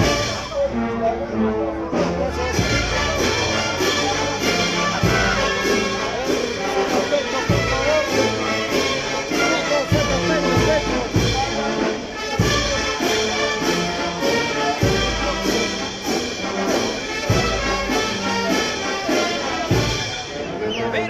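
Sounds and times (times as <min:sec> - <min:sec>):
brass band dance tune: 0:00.0 - 0:21.0.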